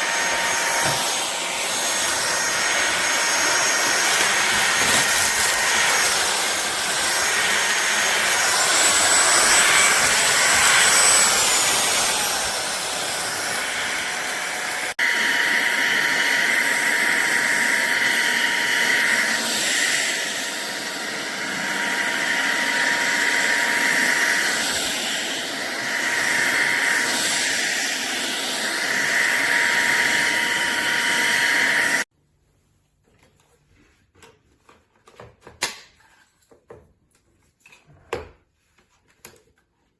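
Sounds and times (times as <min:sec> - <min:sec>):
vacuum cleaner whining: 0:00.0 - 0:32.1.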